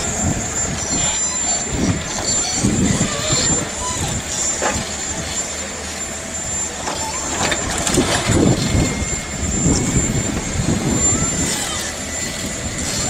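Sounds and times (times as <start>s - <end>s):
diesel engine rumble: 0.0s - 13.0s
hydraulic crane working: 0.0s - 13.0s.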